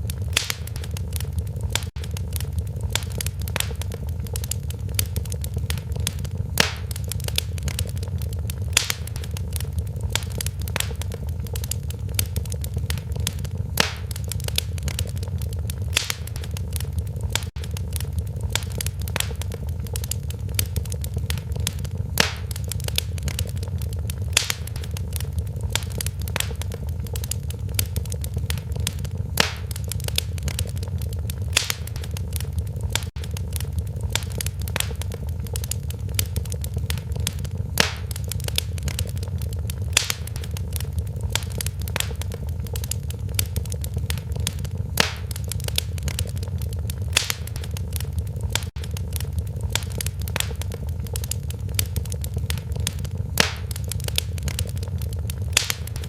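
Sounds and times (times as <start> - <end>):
loud sharp fire pops: 0.0 - 56.0
steady low fire rumble: 0.0 - 56.0
wood fire crackling: 0.0 - 56.0.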